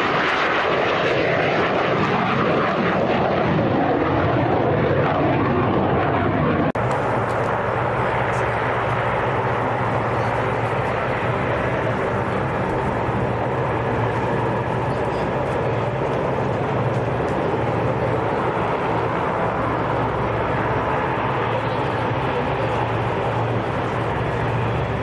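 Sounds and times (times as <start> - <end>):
aircraft engines running: 0.0 - 25.0.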